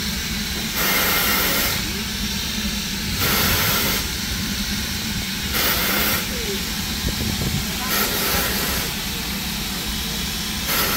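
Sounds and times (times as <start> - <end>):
bursts of steam hiss: 0.0 - 10.9
steam locomotive hissing: 0.0 - 10.9.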